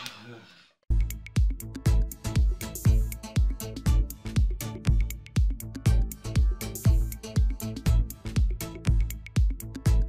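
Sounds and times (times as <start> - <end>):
electronic dance music: 1.9 - 10.0.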